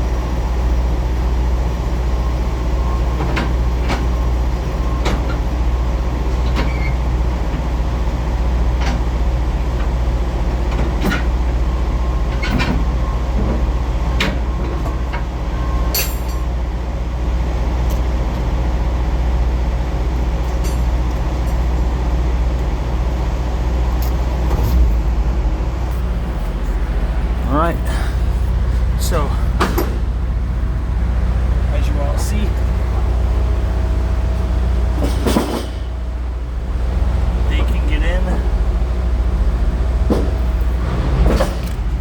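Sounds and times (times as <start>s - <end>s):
truck diesel engine idling: 0.0s - 42.0s.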